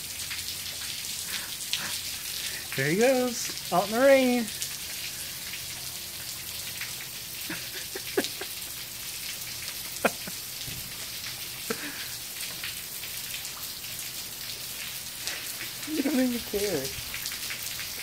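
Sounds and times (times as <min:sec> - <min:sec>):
rain falling on water: 0:00.0 - 0:18.0.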